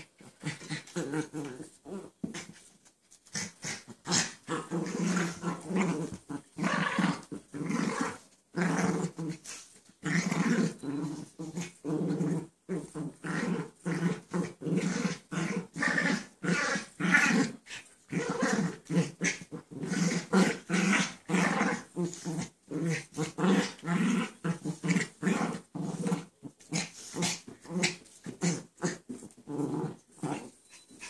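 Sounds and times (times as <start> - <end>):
pets growling: 3.3 - 31.0.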